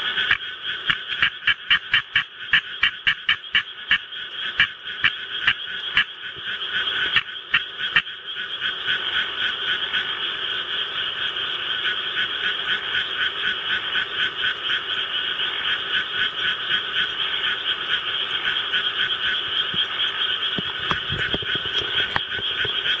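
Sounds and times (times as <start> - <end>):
tree frog croaking: 0.0 - 23.0.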